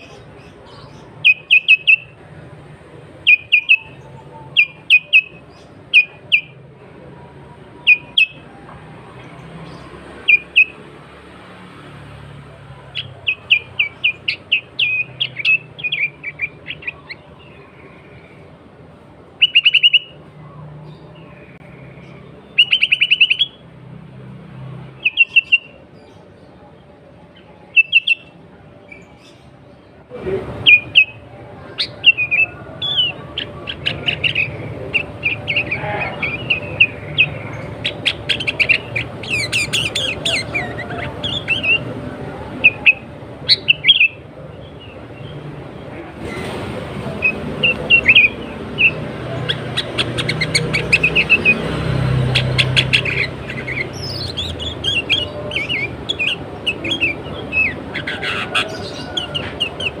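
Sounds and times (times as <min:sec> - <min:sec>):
bird chirping and trilling: 0:00.0 - 0:02.5, 0:03.1 - 0:06.7, 0:07.6 - 0:08.5, 0:09.1 - 0:11.0, 0:12.3 - 0:18.5, 0:19.3 - 0:23.7, 0:24.8 - 0:26.5, 0:27.3 - 0:29.8, 0:30.5 - 1:00.0.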